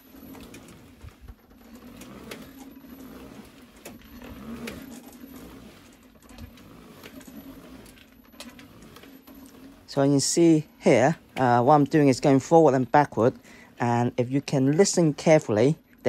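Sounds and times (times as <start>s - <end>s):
electric motor humming: 0.0s - 15.6s.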